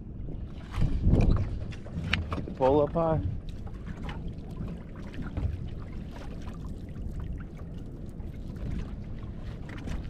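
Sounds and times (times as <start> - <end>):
water sloshing against boat hull: 0.0 - 10.0.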